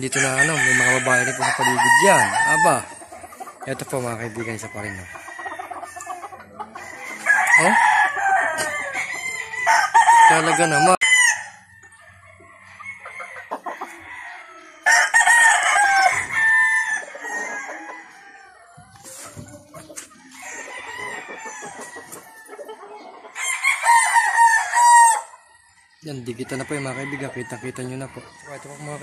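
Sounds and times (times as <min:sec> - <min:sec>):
roosters clucking: 0:00.0 - 0:29.0
roosters crowing: 0:00.0 - 0:29.0.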